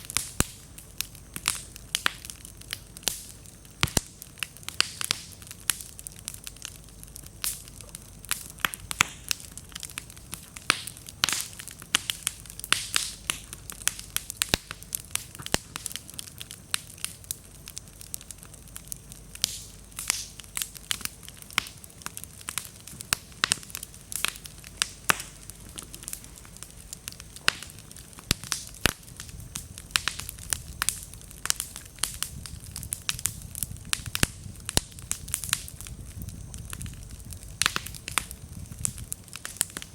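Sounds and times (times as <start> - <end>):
sharp pops and snaps of firewood: 0.0 - 39.9
wood bonfire crackling: 0.0 - 39.9.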